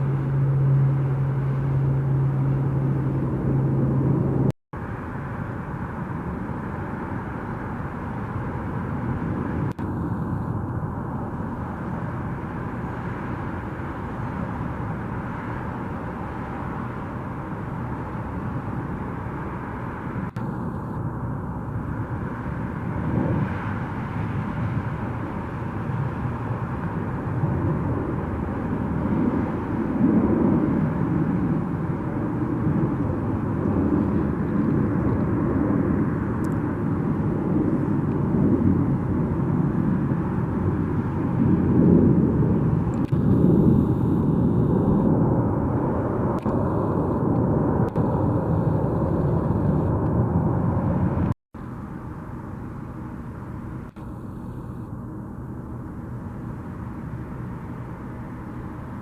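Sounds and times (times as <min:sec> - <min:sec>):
airliner engine roar: 0:00.0 - 0:59.0
low hum: 0:00.0 - 0:59.0.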